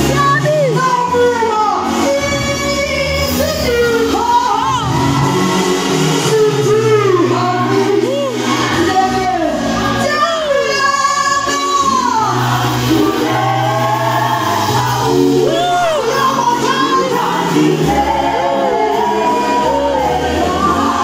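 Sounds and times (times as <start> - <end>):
gospel group singing: 0.0 - 21.0.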